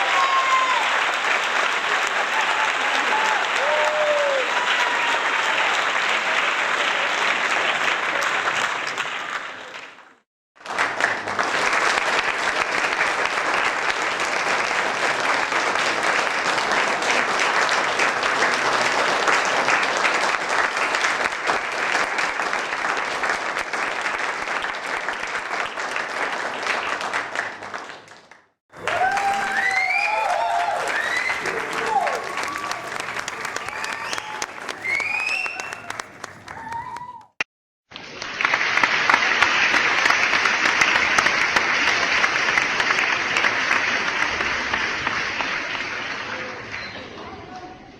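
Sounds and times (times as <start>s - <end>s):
audience applause: 0.0s - 37.4s, 38.0s - 47.6s.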